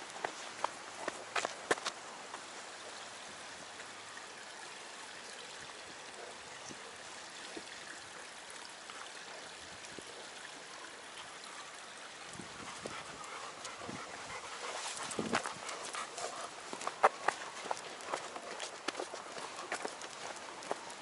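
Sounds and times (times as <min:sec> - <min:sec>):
stream running over stones: 0:00.0 - 0:21.0.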